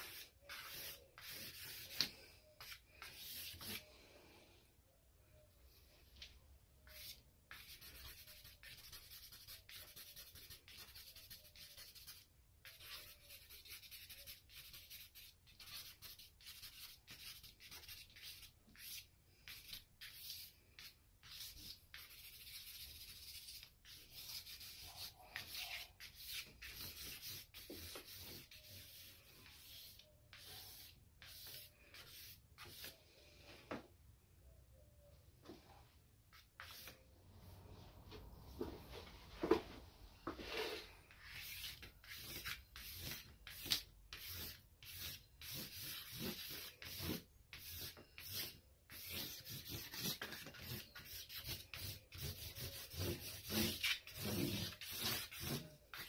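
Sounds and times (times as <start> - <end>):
charcoal scratching on paper: 0.0 - 3.9, 6.8 - 33.0, 36.3 - 37.0, 40.4 - 56.0.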